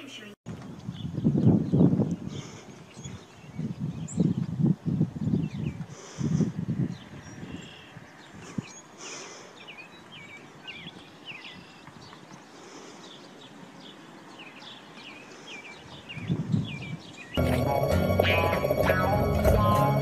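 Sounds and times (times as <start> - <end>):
small birds chirping: 0.1 - 17.4.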